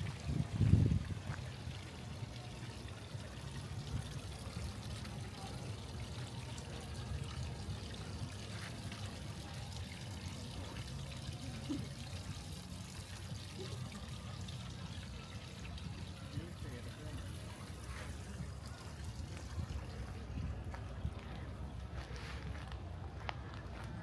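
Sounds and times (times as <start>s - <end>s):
water pouring and trickling: 0.0s - 22.1s.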